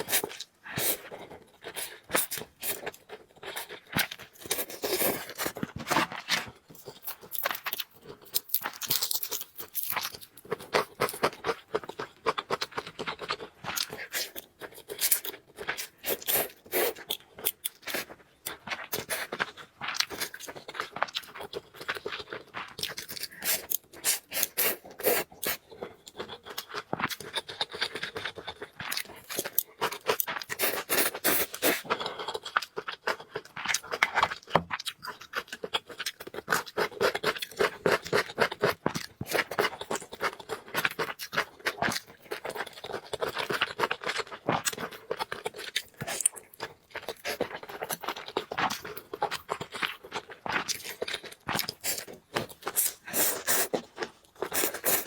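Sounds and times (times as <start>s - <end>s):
noodles chewed and slurped: 10.5s - 55.0s.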